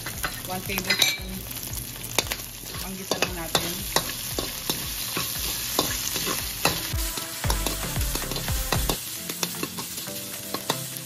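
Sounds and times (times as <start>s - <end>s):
pork sizzling in a wok: 0.0s - 11.0s.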